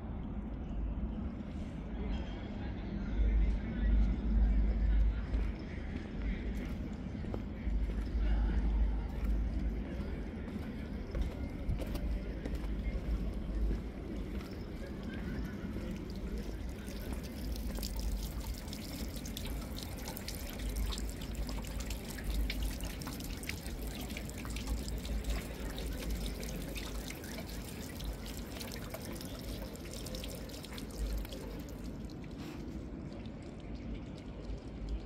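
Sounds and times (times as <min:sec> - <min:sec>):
fountain water trickling: 0:06.6 - 0:35.0.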